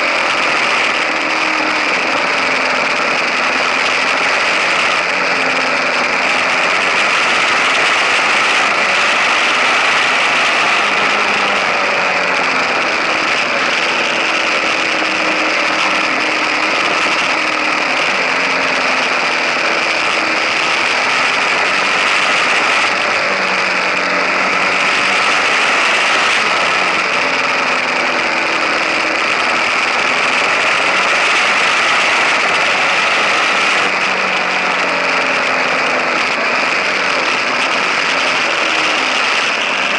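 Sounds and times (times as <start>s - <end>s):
motorcycle engine running: 0.0s - 39.9s
tyre noise on road: 0.0s - 39.9s.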